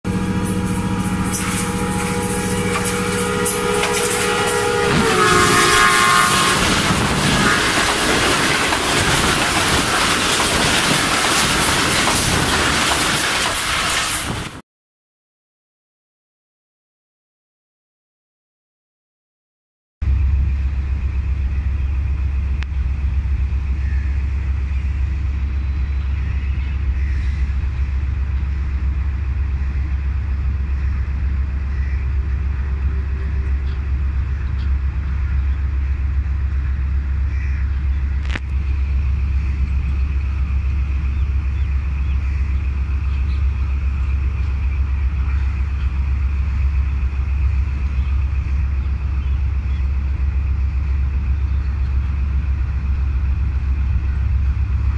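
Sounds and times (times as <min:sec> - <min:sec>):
locomotive engine rumbling: 0:00.0 - 0:14.6, 0:20.0 - 0:54.9.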